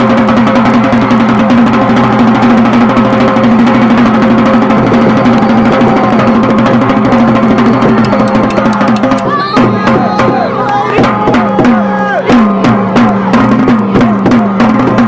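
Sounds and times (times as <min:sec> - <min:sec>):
loud drum-driven music: 0:00.0 - 0:15.0.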